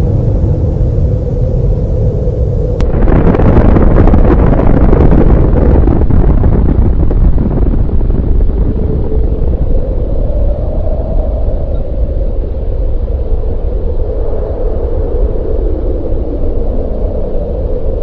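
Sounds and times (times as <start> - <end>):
deep rumbling explosion roar: 0.0 - 18.0
steady droning tone: 0.0 - 18.0.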